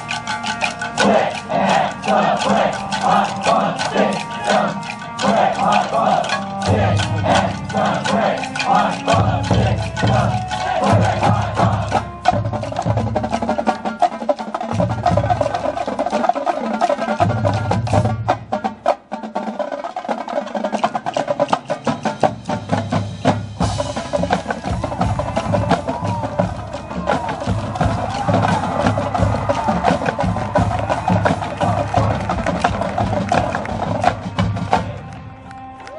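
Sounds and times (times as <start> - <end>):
marching band playing: 0.0 - 35.9
percussion strokes: 0.0 - 35.9.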